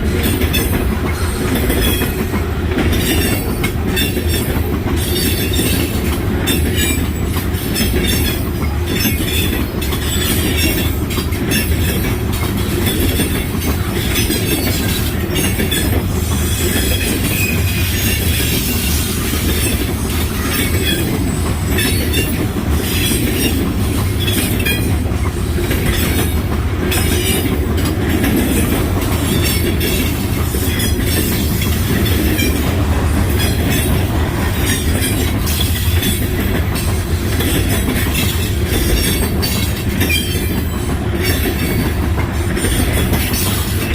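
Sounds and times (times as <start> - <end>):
freight train rumbling: 0.0 - 43.9
train wheels squealing: 0.0 - 43.9
wheels clacking over rail joints: 0.0 - 43.9.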